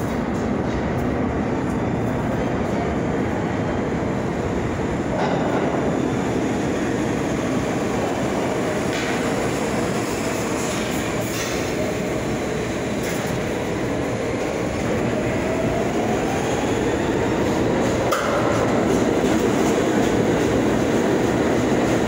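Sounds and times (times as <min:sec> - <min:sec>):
subway train rail rumble: 0:00.0 - 0:22.0.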